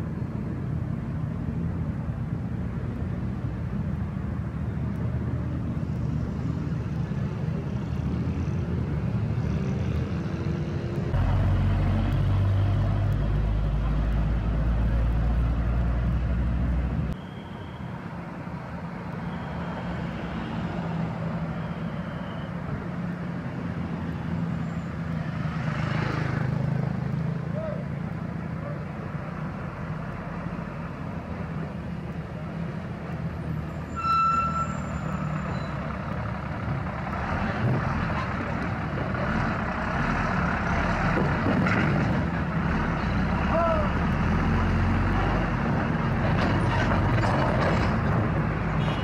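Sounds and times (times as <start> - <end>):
diesel trucks driving past: 0.0 - 49.0.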